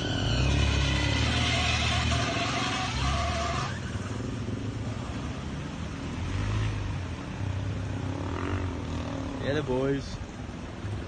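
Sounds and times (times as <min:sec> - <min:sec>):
water washing around vehicle: 0:00.0 - 0:11.0.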